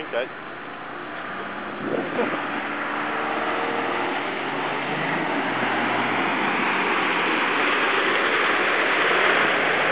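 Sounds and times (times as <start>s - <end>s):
vehicle engine hum: 0.0s - 9.9s
water rushing and churning: 0.0s - 9.9s.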